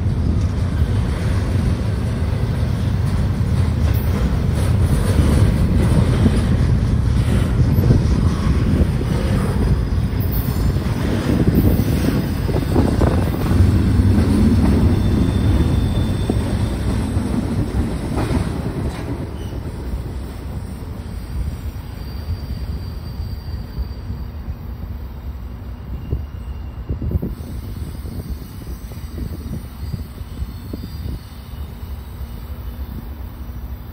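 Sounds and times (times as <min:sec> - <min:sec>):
steel wheels rumbling on rail: 0:00.0 - 0:33.9.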